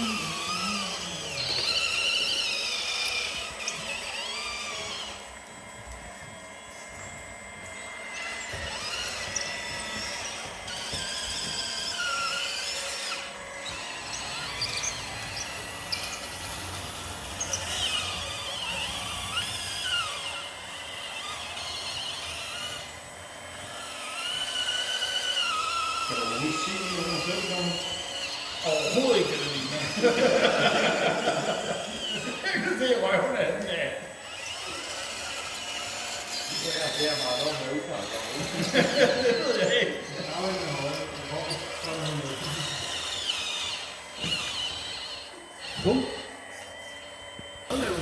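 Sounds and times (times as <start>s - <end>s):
small electric motors whining: 0.0s - 48.0s.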